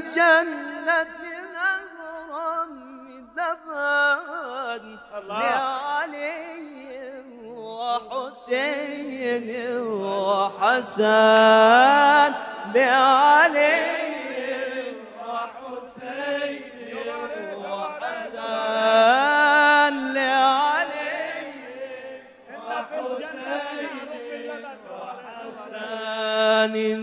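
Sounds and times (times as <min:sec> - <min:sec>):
man singing ornamented melody: 0:00.0 - 0:27.0.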